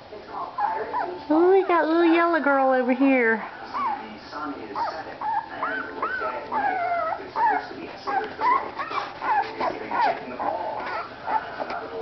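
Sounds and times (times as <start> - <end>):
puppies squeaking and whimpering: 0.5 - 2.2, 3.6 - 11.9.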